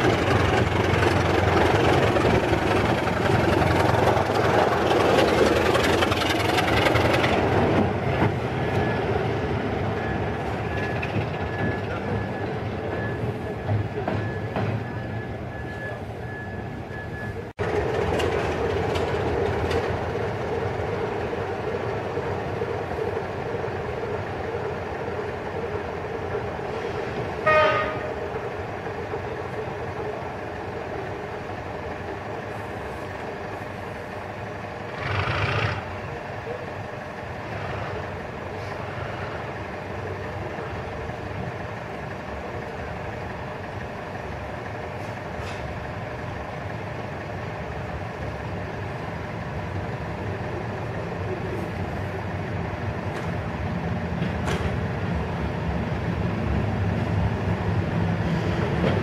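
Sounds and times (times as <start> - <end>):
distant diesel locomotive: 0.0 - 59.0.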